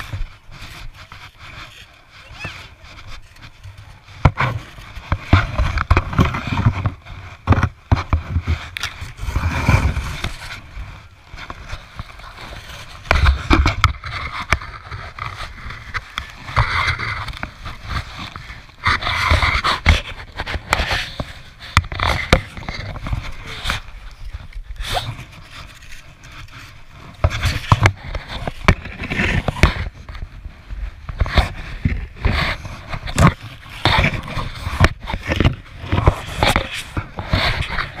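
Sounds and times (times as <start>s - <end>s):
plastic shovel scraping snow: 0.0s - 38.0s.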